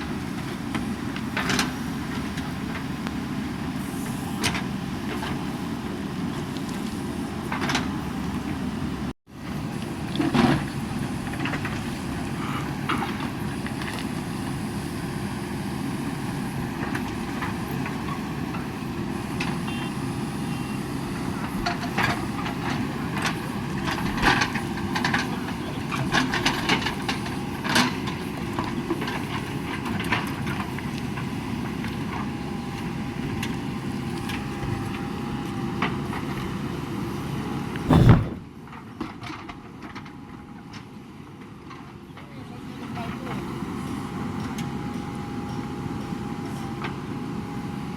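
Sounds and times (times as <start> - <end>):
diesel engine running: 0.0 - 38.5.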